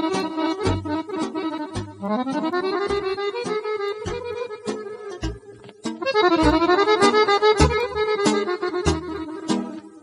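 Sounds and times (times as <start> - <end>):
accordion folk music: 0.0 - 10.0.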